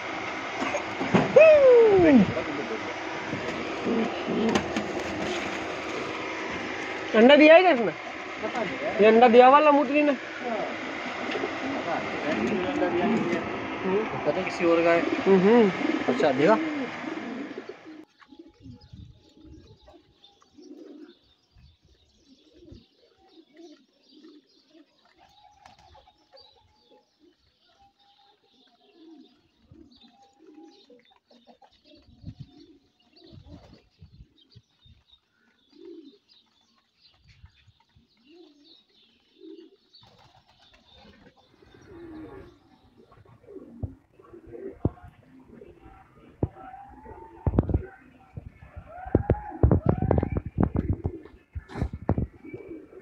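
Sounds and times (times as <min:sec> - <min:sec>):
pigeons cooing: 0:00.0 - 0:53.0
small birds chirping: 0:02.4 - 0:53.0.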